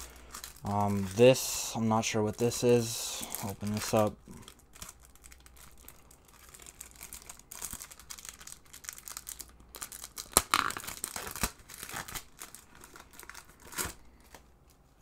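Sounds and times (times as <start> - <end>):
plastic wrapping crackling: 0.0 - 14.8
plastic wrapping crinkling: 0.0 - 15.0.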